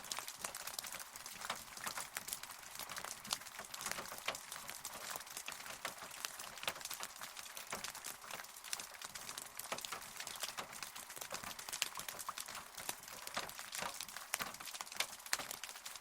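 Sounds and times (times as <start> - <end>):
rain hiss: 0.0 - 16.0
raindrops tapping on hard surface: 0.0 - 16.0.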